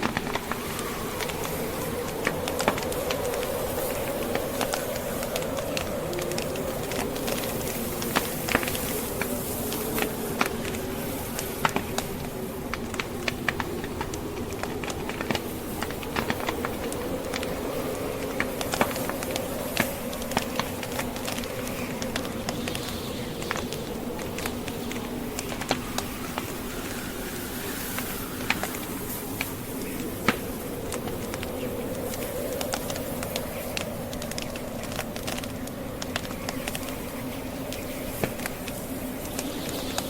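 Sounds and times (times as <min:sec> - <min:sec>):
log fire crackling and popping: 0:00.0 - 0:40.0
whistling storm wind: 0:00.0 - 0:40.0.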